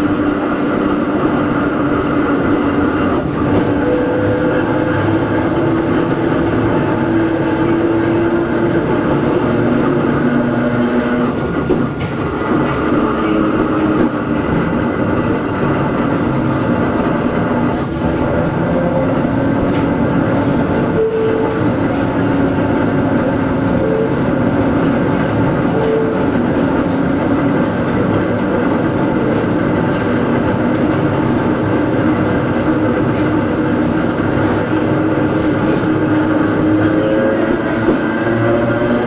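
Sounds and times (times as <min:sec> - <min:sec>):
train motor and gear hum: 0:00.0 - 0:39.0
wheel and rail rumble: 0:00.0 - 0:39.0
wheels squealing: 0:00.0 - 0:39.0.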